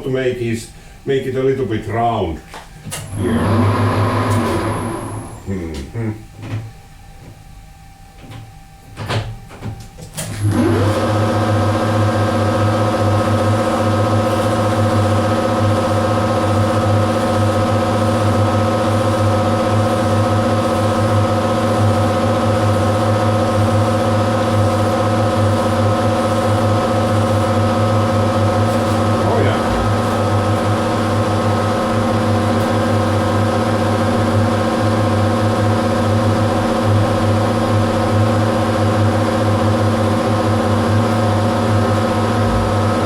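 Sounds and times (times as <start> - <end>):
lathe motor spinning up and humming: 3.0 - 5.6, 10.3 - 43.0.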